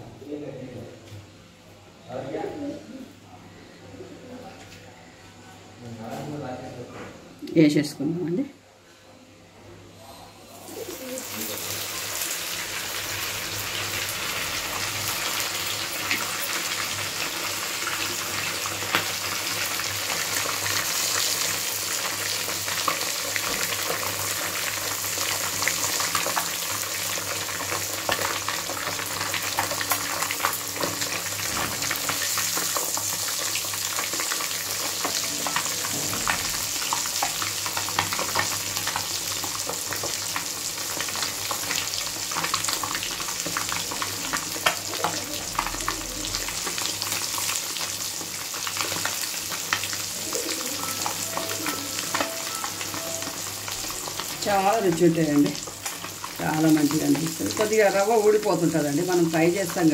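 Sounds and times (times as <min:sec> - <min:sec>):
fish deep-frying in hot oil: 0:10.5 - 0:59.9.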